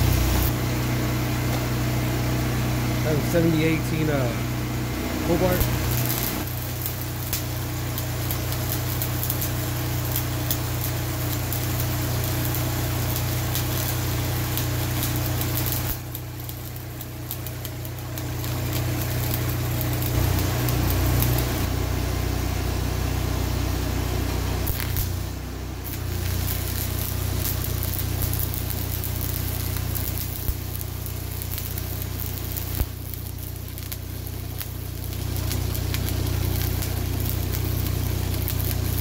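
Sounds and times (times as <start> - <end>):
welding arc crackling: 0.0 - 21.8, 24.2 - 39.0
welder engine running: 0.0 - 39.0.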